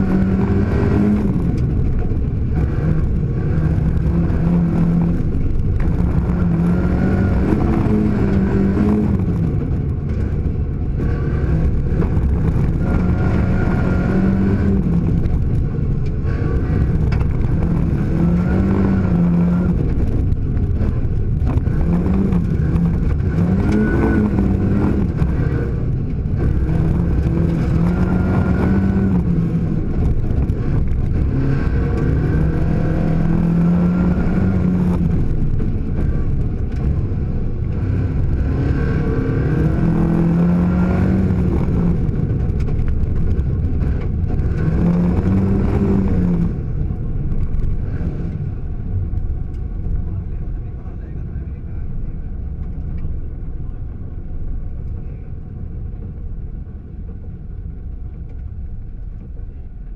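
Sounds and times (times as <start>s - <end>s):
rally car engine revving: 0.0s - 59.9s
tyres rumbling on gravel: 0.0s - 59.9s.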